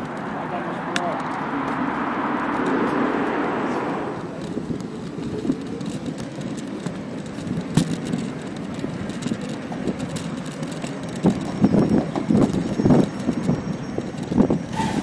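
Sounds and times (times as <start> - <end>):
scooter wheels rolling on pavement: 0.0 - 15.0.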